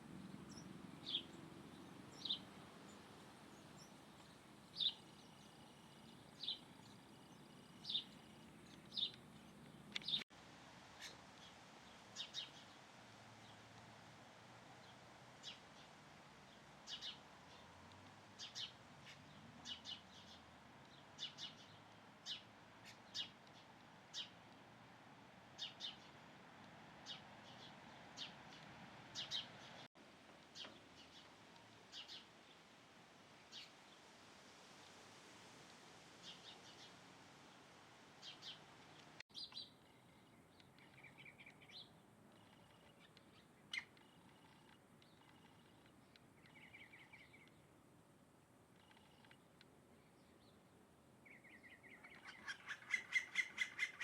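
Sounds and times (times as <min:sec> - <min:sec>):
faint background hiss: 0:00.0 - 0:54.0
small birds chirping: 0:00.1 - 0:10.3, 0:10.9 - 0:13.6, 0:14.7 - 0:24.7, 0:25.5 - 0:26.3, 0:27.0 - 0:32.6, 0:33.4 - 0:34.0, 0:36.2 - 0:37.6, 0:38.2 - 0:47.8, 0:48.8 - 0:54.0.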